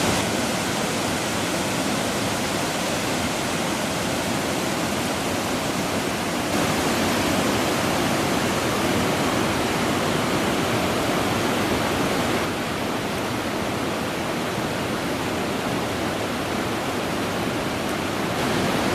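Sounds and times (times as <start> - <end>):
water rushing over rocks: 0.0 - 18.9.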